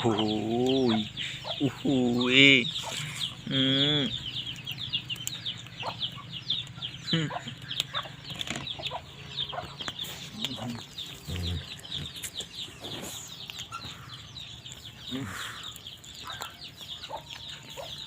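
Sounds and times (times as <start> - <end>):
chicken clucks: 0.0 - 3.5, 4.8 - 14.3, 15.0 - 18.0
chicks peeping: 0.0 - 18.0.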